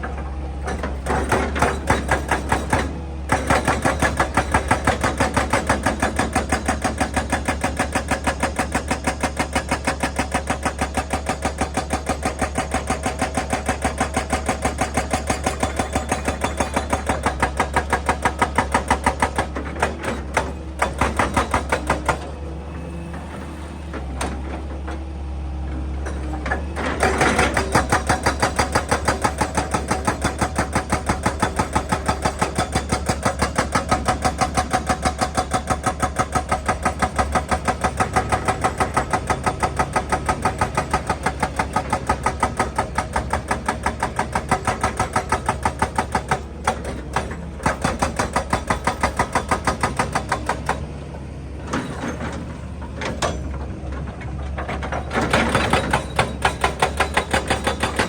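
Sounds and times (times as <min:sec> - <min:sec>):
hydraulic breaker hammering rock: 0:00.0 - 0:22.4, 0:26.0 - 0:58.0
excavator engine running: 0:00.0 - 0:58.0.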